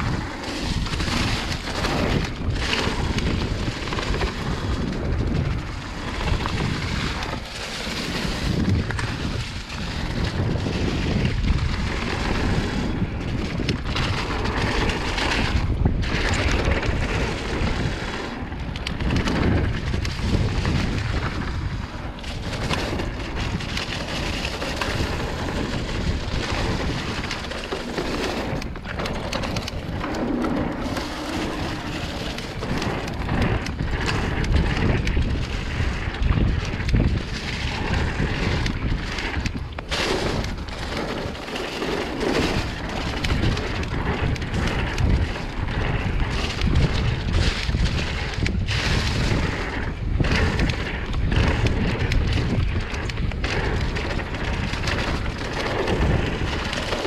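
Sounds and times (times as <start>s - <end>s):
tyres rolling over dirt and leaves: 0.0s - 57.0s
wind buffeting microphone: 0.0s - 57.0s.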